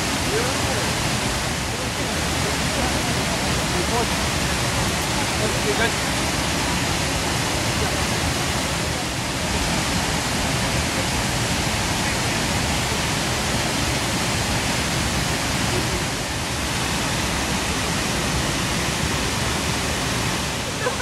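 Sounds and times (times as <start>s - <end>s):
rushing water of rapids: 0.0s - 21.0s.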